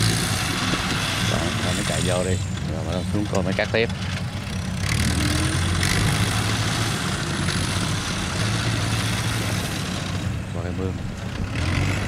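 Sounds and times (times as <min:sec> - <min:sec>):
combine harvester engine humming: 0:00.0 - 0:12.0.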